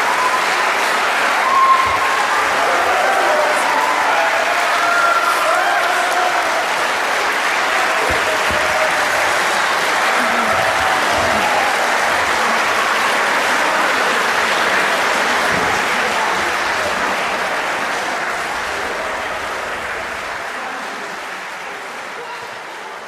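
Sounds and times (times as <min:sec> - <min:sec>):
crowd cheering and applauding: 0:00.0 - 0:23.0.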